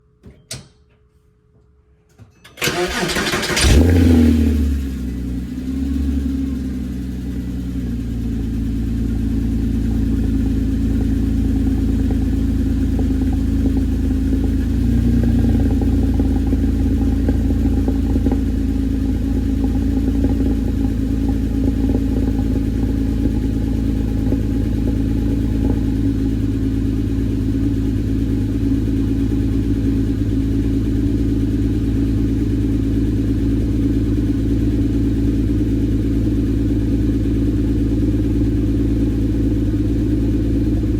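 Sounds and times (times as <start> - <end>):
car engine idling: 2.6 - 40.9.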